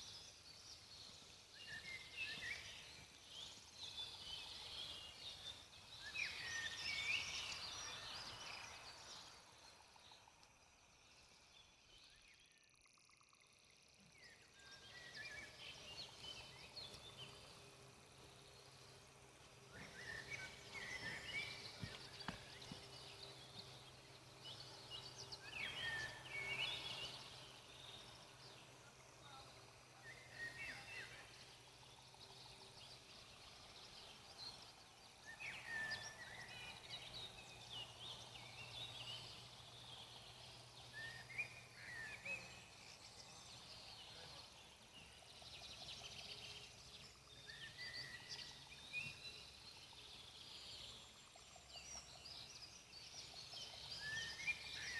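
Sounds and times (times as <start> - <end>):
faint low hum: 0.0 - 54.9
songbirds chirping: 0.0 - 54.9.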